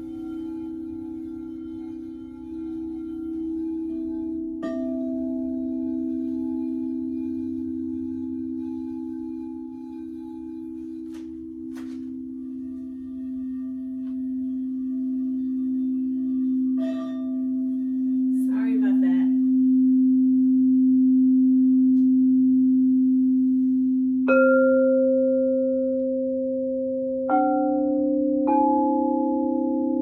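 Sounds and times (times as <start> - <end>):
singing bowl ringing: 0.0 - 30.0.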